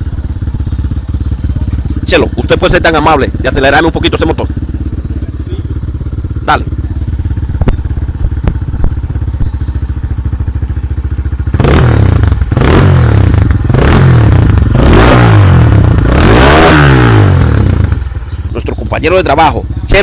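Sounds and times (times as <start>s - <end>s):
motorcycle engine idling: 0.0s - 20.0s
motorcycle engine revving: 0.0s - 20.0s.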